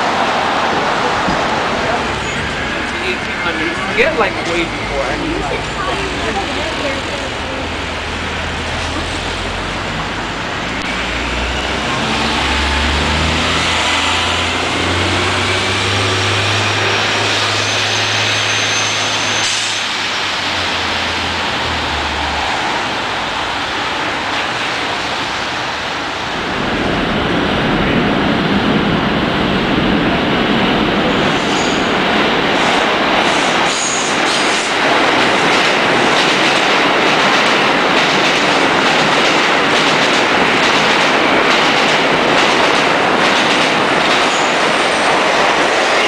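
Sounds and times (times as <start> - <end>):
bus engines humming: 0.0 - 46.0
traffic noise: 0.0 - 46.0.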